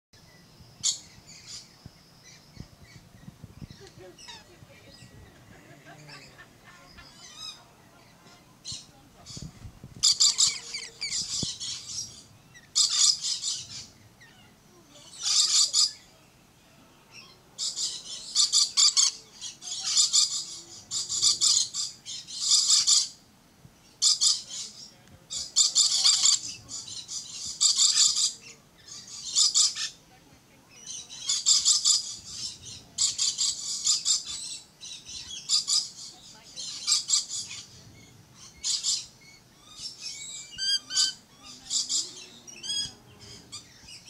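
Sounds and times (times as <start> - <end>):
lorikeets shrill calls: 0.4 - 16.2, 17.1 - 23.2, 23.8 - 30.1, 30.7 - 44.0.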